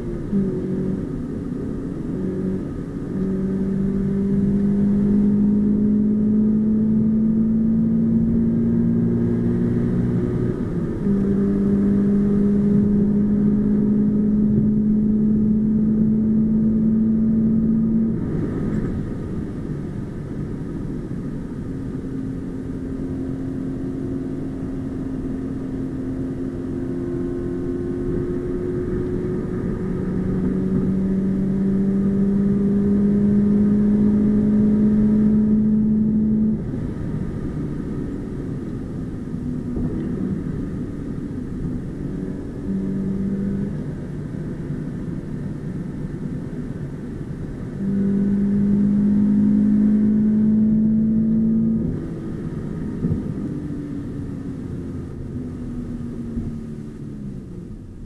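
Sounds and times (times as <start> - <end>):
car engine under throttle: 0.0 - 58.0.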